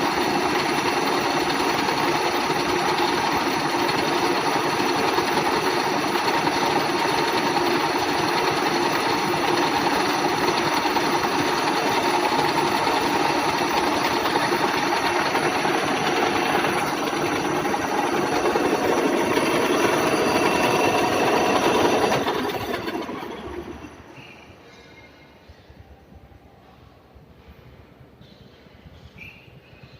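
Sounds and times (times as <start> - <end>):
milling machine clattering: 0.0 - 24.1.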